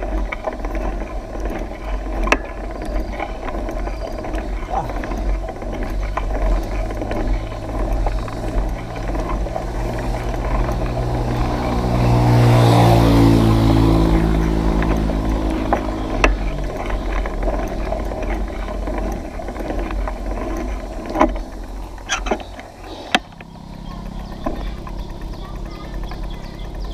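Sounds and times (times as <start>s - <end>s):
vehicle engine passing by: 0.0s - 26.9s.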